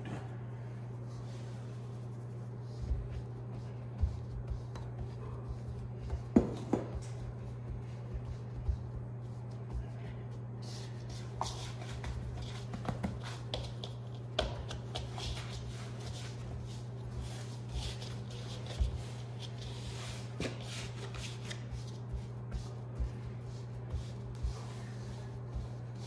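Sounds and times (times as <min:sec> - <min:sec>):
hands kneading dough: 0:00.2 - 0:26.0.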